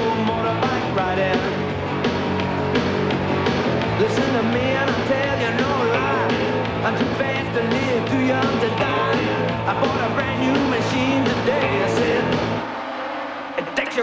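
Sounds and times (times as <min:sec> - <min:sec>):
steady bass line: 0:00.0 - 0:12.9
rock music with singing: 0:00.0 - 0:14.0.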